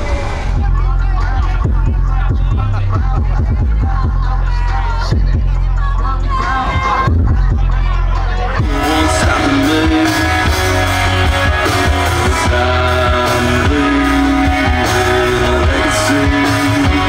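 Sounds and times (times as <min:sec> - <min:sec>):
bass line: 0:00.0 - 0:17.0
guitar: 0:00.0 - 0:17.0
person singing: 0:00.0 - 0:17.0.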